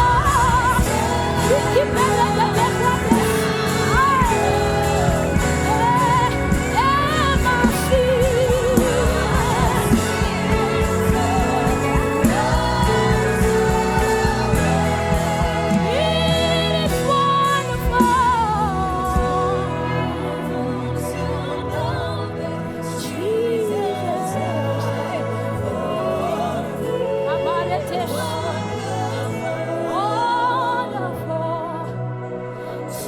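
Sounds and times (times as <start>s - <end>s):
sustained worship accompaniment: 0.0s - 33.0s.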